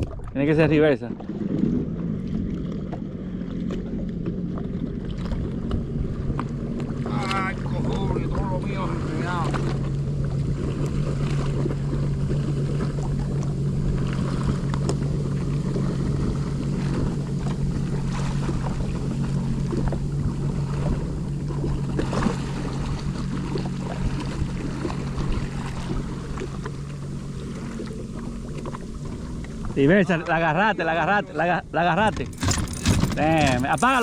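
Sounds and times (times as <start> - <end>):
water splashing: 0.0 - 31.0, 31.6 - 34.0
jet ski engine humming: 0.0 - 34.0.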